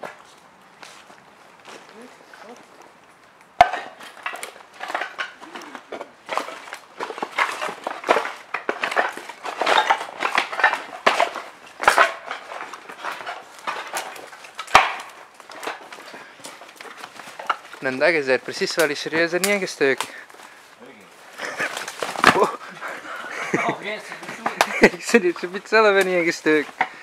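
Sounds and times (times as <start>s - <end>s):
rustling of brush and branches: 0.0s - 27.0s
sharp cracks: 3.1s - 20.5s, 21.3s - 27.0s.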